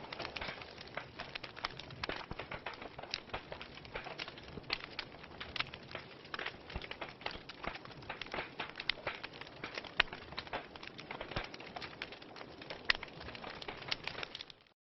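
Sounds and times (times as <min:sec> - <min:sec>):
wood fire crackling: 0:00.0 - 0:14.7.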